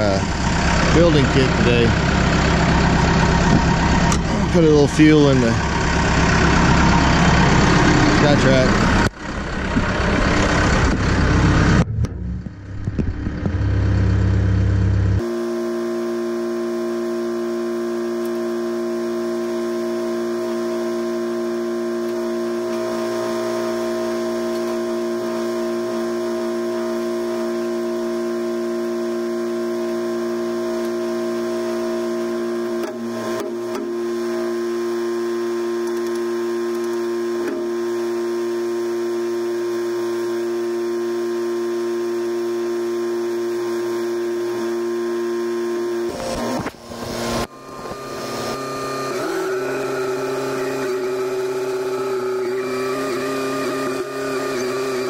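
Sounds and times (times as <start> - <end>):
engine running: 0.0 - 55.0
fuel pump electric hum: 0.0 - 55.0.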